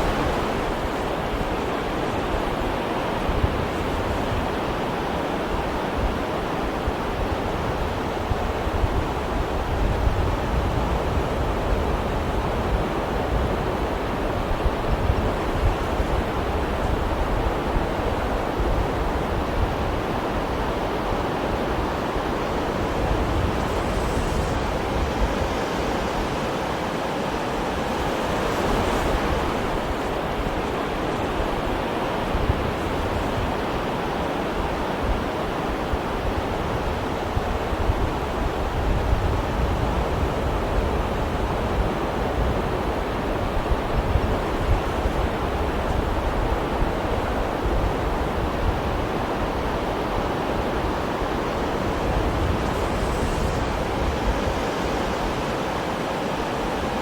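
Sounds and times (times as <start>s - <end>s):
sea waves washing in: 0.0s - 57.0s.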